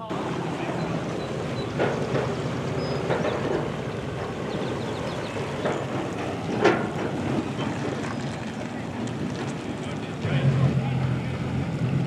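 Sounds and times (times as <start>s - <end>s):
boat motors idling: 0.0s - 12.0s.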